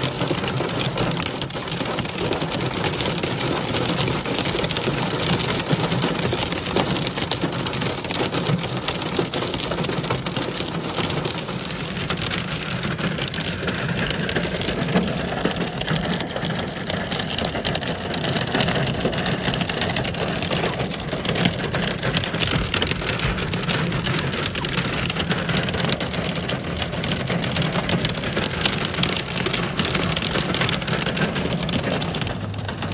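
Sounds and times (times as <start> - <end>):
rain and hail on car roof: 0.0 - 32.9.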